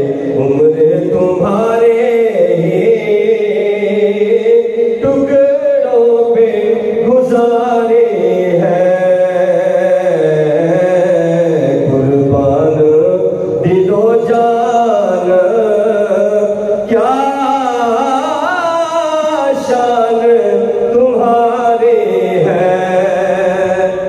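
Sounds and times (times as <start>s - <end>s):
person chanting poetry melodically: 0.0s - 24.0s.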